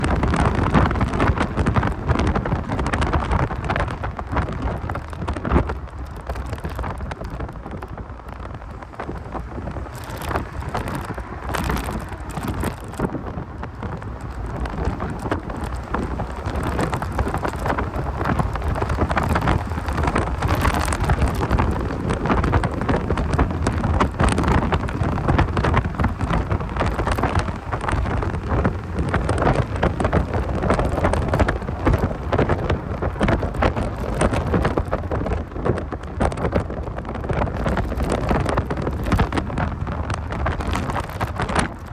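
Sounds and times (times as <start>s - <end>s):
car engine and road noise: 0.0s - 41.9s
microphone crackle and hiss: 0.0s - 41.9s.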